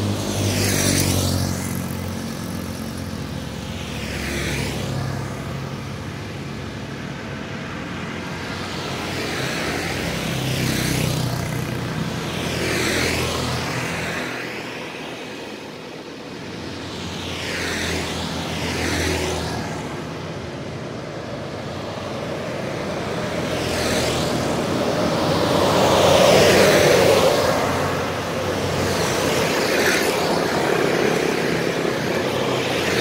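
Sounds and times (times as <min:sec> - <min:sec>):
cars passing: 0:00.0 - 0:33.0
motorcycles passing: 0:00.0 - 0:33.0.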